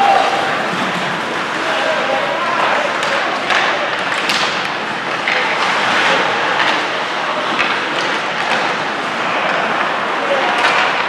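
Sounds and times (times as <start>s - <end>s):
ice rink noise: 0.0s - 11.0s.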